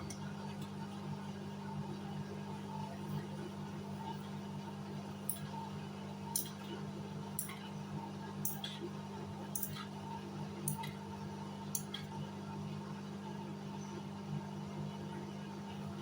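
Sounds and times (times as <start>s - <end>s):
washing machine humming: 0.0s - 13.3s.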